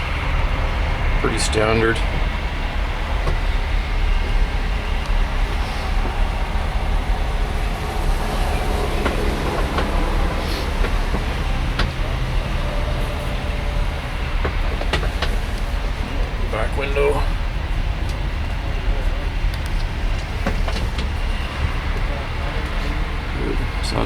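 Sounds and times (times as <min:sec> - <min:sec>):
large engine rumbling: 0:00.0 - 0:24.0.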